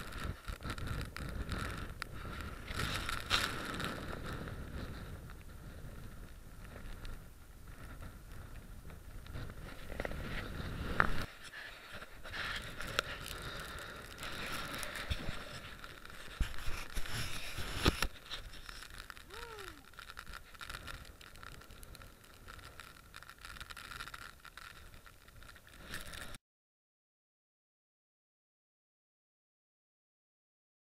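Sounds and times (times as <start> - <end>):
rain: 0.0 - 26.4.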